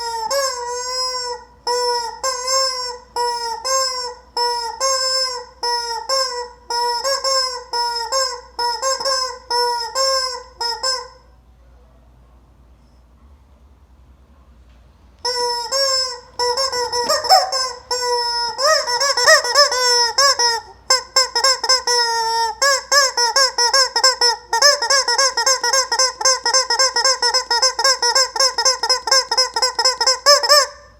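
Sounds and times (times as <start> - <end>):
rubber chicken toy squawking: 0.0 - 11.2, 15.2 - 30.9.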